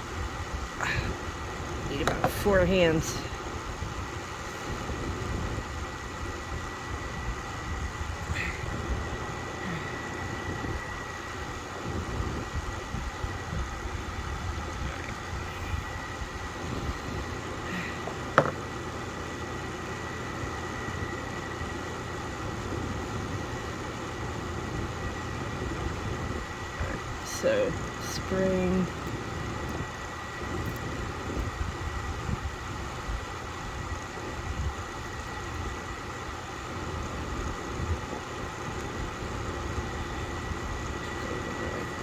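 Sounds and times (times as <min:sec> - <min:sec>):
background hum: 0:00.0 - 0:42.0.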